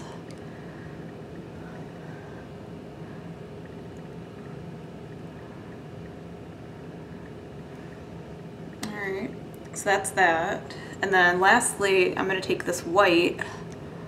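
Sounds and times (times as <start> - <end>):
room hum and hiss: 0.0 - 14.0.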